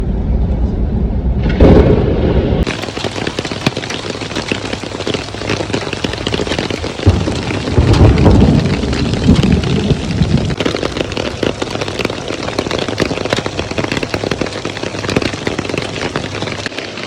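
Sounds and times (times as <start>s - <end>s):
wind buffeting microphone: 1.3s - 16.7s
heavy rain: 2.6s - 17.0s.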